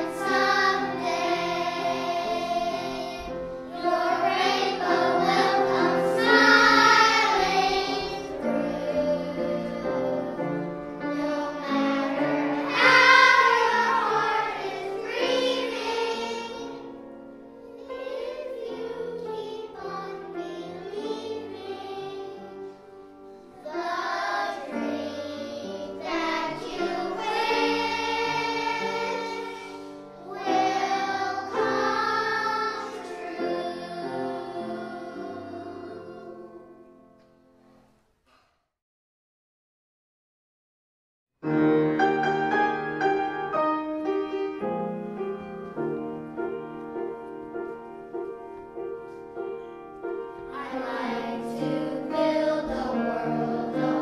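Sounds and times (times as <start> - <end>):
children's choir singing: 0.0 - 37.2, 44.1 - 54.0.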